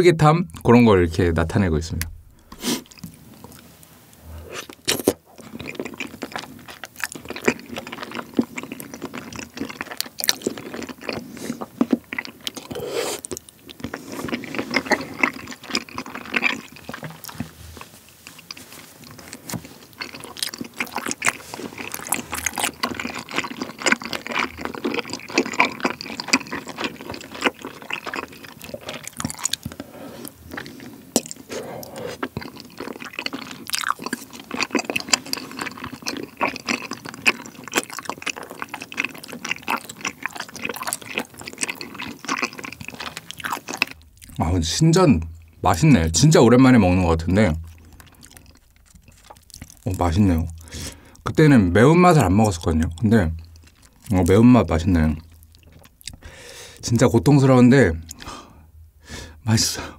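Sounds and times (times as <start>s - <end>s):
chewing sticky noodles: 2.6s - 56.9s.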